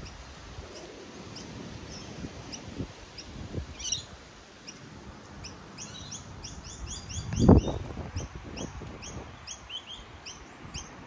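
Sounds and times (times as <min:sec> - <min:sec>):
small bird chirping: 0:00.0 - 0:04.8, 0:05.4 - 0:11.0.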